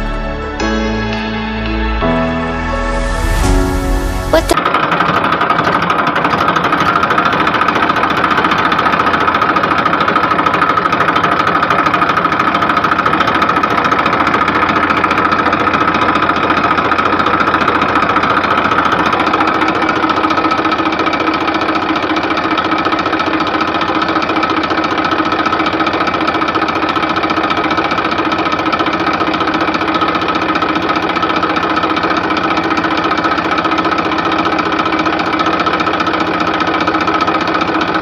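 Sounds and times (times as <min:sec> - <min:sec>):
small tractor engine knocking: 0:04.4 - 0:38.0.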